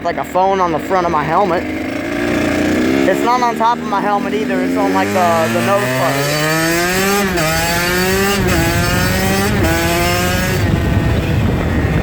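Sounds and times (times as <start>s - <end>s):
dirt bike engine accelerating: 0.0s - 12.0s.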